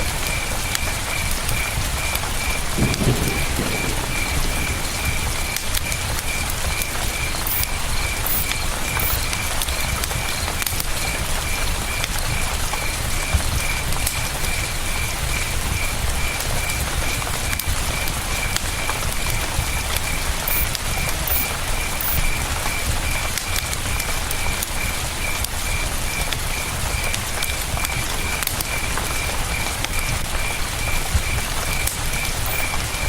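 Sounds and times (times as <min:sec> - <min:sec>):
campfire crackling and popping: 0:00.0 - 0:33.0
cricket chirping: 0:00.1 - 0:33.0.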